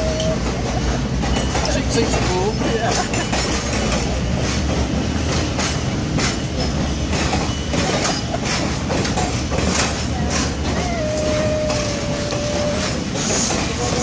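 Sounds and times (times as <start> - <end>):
train coaches rumbling: 0.0 - 14.0
wheels clicking over rail joints: 0.0 - 14.0.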